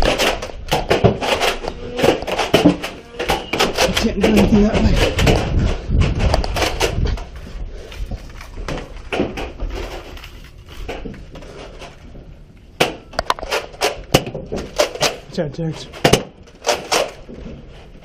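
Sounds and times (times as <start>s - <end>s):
sharp clicks and knocks: 0.0s - 17.9s
handling and movement noise: 0.0s - 18.0s.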